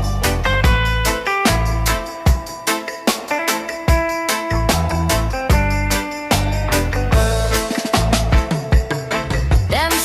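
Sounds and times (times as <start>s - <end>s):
instrumental reggae music: 0.0s - 10.0s.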